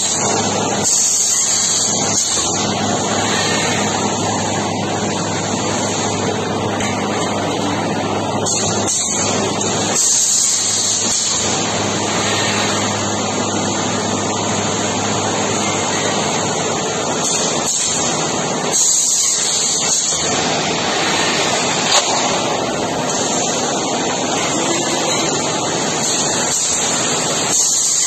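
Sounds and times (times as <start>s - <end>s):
loud machinery running: 0.0s - 28.0s.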